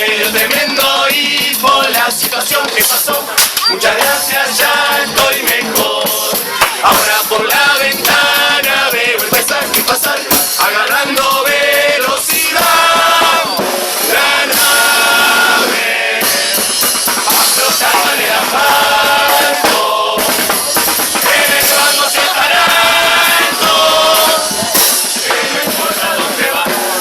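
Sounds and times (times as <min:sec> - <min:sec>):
chorus singing: 0:00.0 - 0:27.0
drums: 0:00.0 - 0:27.0.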